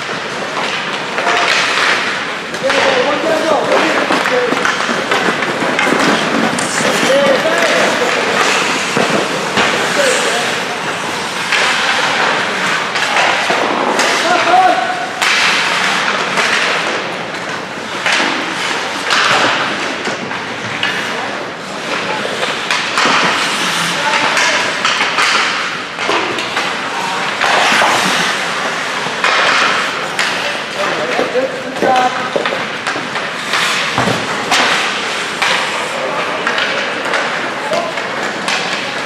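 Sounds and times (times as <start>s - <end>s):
hockey sticks and puck clacking: 0.0s - 39.0s
skates scraping ice: 0.0s - 39.0s.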